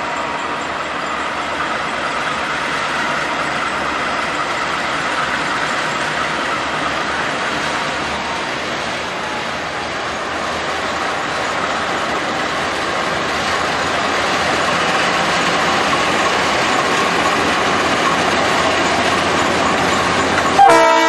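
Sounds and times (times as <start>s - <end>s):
diesel locomotives running: 0.0s - 21.0s.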